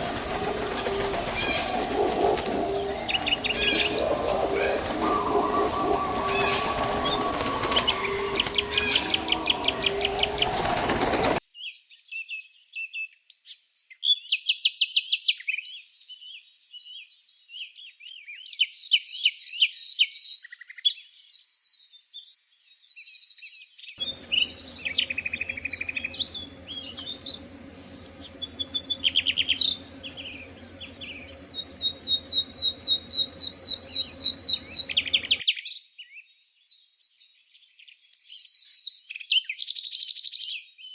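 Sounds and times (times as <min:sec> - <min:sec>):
songbirds chirping and trilling: 0:00.0 - 0:12.9, 0:15.8 - 0:39.5.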